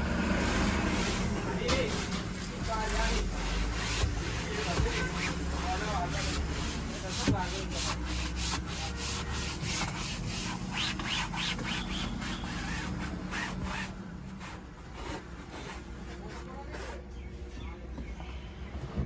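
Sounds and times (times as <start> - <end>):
scrubbing fabric: 0.0 - 17.1.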